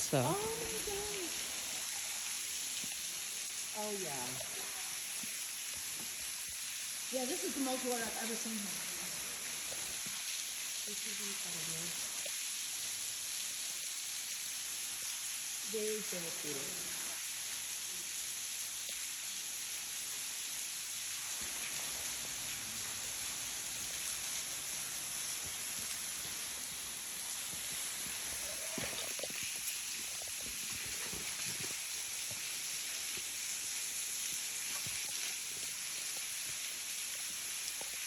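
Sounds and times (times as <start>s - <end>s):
waterfall splashing onto rocks: 0.0s - 38.0s.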